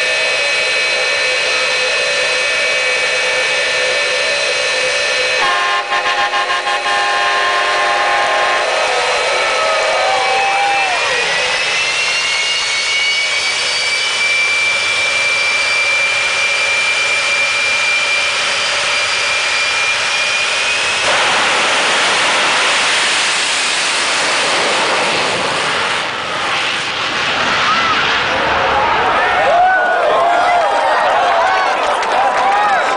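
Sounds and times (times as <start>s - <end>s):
jet engine high whine: 0.0s - 32.9s
jet engine rushing roar: 0.0s - 32.9s.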